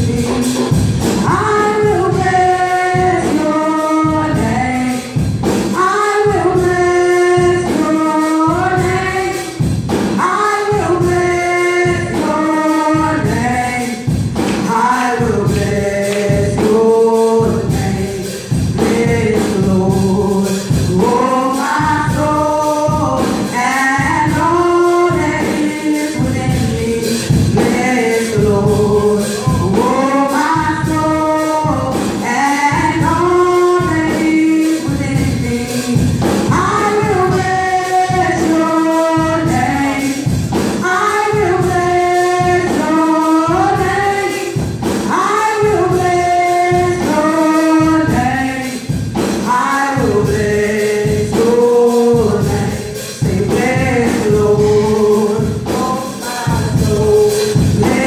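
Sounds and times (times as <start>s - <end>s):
steady drum beat: 0.0s - 58.0s
women singing in harmony: 0.0s - 58.0s.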